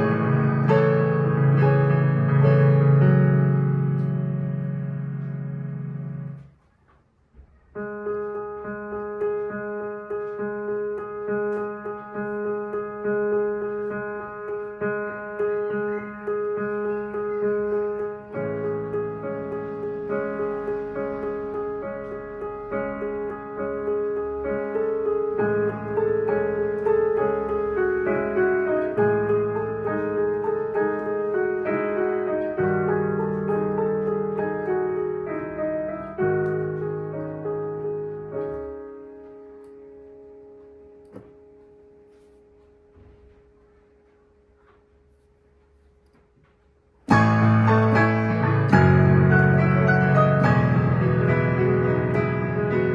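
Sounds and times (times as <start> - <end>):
slow piano music: 0.0 - 52.9.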